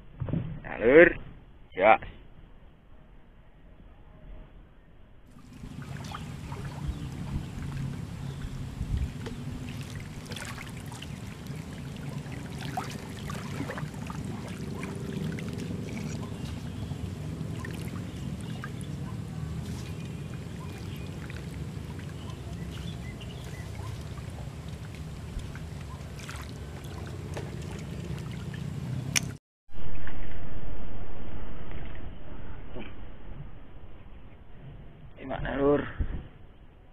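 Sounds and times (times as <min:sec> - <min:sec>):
low outdoor rumble: 0:02.4 - 0:36.9.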